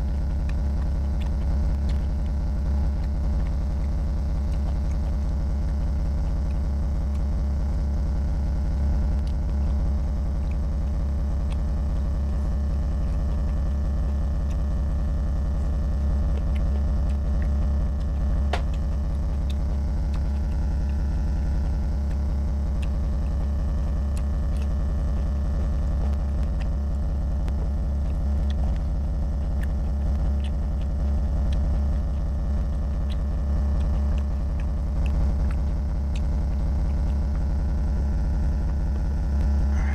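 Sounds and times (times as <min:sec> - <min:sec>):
chewing clicks: 0:00.0 - 0:39.9
steady low hum: 0:00.0 - 0:39.9.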